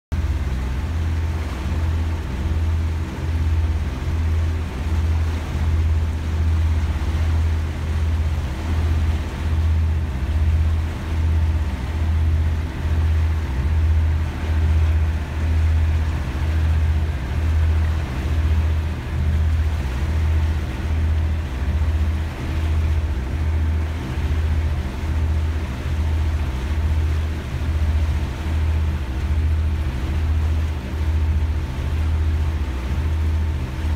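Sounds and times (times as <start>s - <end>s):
boat engine droning: 0.1s - 33.9s
wind: 0.1s - 33.9s.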